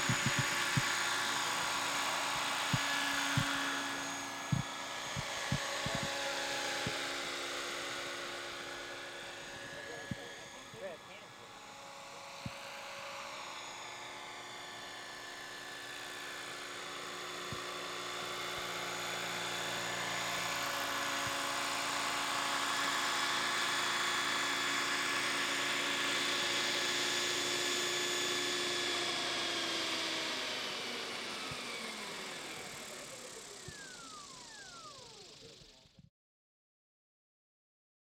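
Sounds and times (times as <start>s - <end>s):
model helicopter motor and rotor whine: 0.0s - 36.1s.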